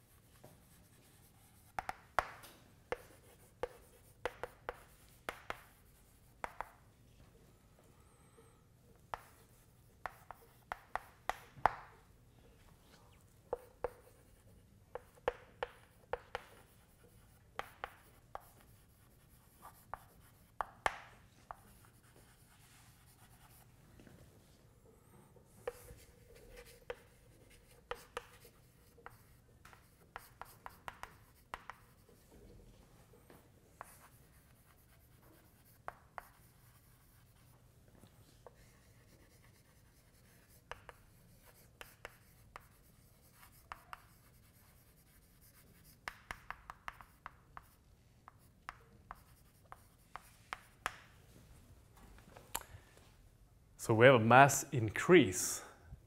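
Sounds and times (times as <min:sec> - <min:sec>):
chalk tapping and scraping on blackboard: 0:00.0 - 0:07.3, 0:09.0 - 0:24.5, 0:25.3 - 0:51.2.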